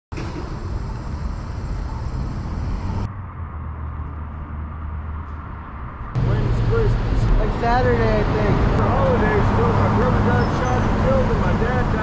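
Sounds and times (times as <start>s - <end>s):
traffic rumble: 0.1s - 12.0s
muffled low hum: 0.5s - 10.2s.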